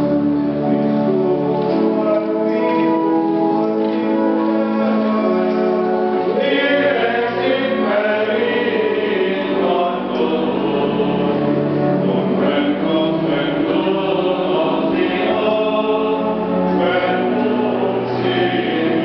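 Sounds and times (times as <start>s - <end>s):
voices singing a hymn: 0.0s - 19.0s.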